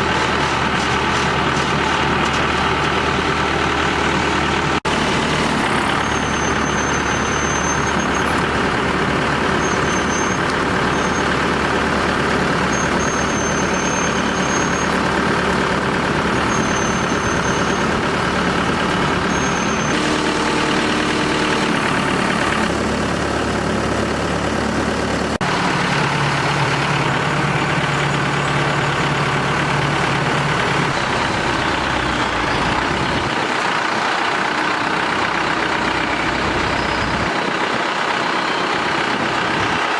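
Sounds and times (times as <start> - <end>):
drilling rig engine running: 0.0 - 39.9.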